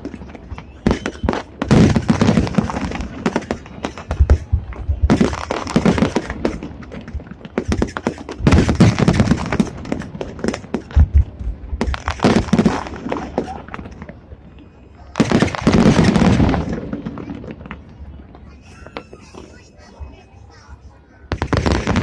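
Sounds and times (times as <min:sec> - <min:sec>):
fireworks crackling bangs: 0:00.0 - 0:20.5, 0:21.3 - 0:22.0.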